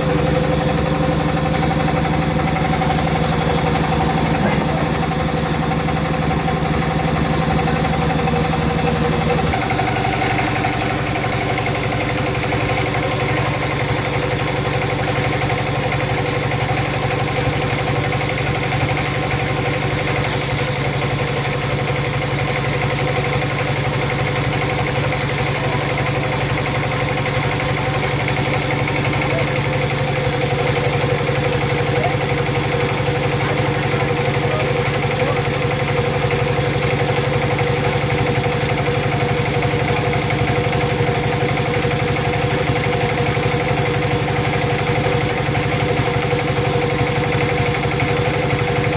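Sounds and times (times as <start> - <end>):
sawmill machinery droning: 0.0 - 48.9.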